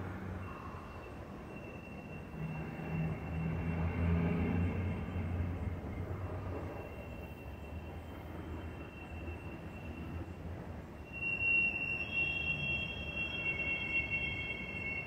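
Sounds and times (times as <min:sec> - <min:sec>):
high-pitched squeal: 0:00.4 - 0:10.4, 0:11.0 - 0:15.0.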